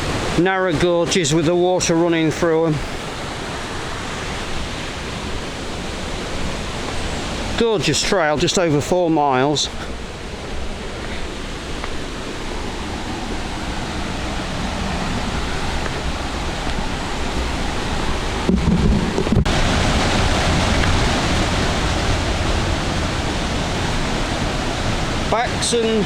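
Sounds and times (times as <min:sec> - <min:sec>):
river water roaring: 0:00.0 - 0:26.0.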